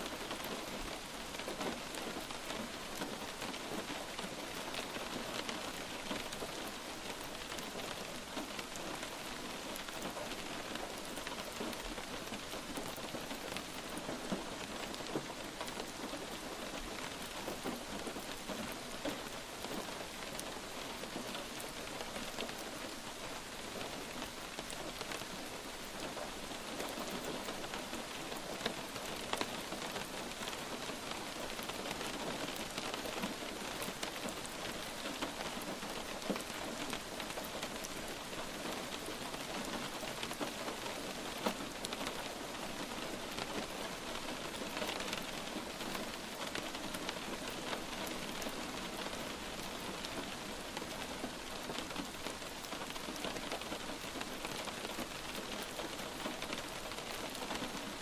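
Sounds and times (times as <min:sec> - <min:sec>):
light rain pattering: 0:00.0 - 0:58.0.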